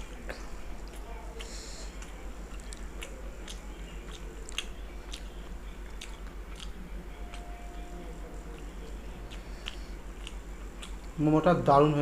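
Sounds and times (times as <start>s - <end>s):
wet chewing: 0.0s - 11.2s
steady low hum: 0.0s - 12.0s.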